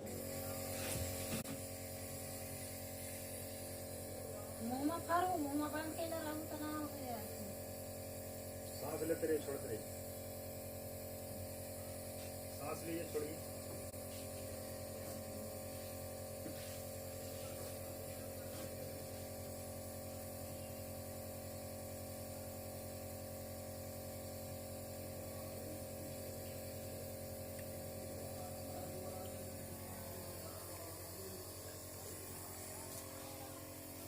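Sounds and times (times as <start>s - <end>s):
nebulizer motor humming: 0.0s - 34.0s.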